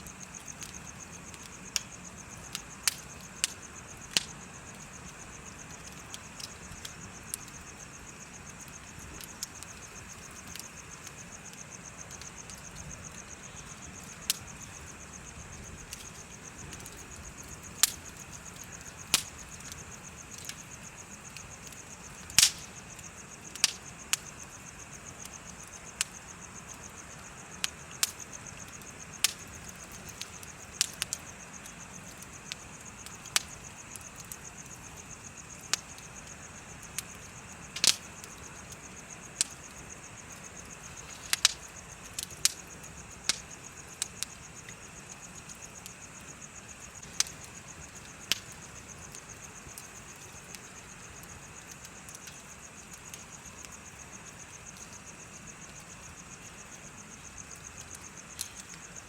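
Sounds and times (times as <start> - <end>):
bonfire crackling and popping: 0.0 - 59.0
insects chirping: 0.0 - 59.0.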